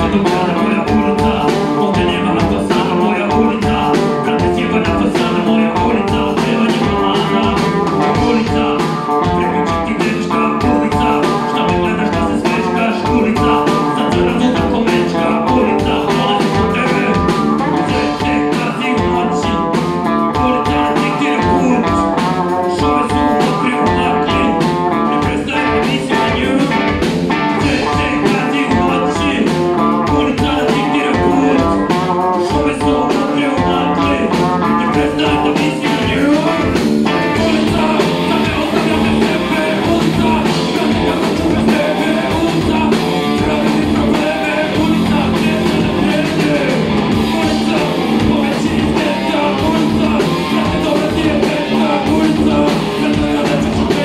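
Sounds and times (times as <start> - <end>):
bass guitar: 0.0 - 54.0
drum kit: 0.0 - 54.0
electric guitar: 0.0 - 54.0
man singing into a microphone: 0.0 - 54.0.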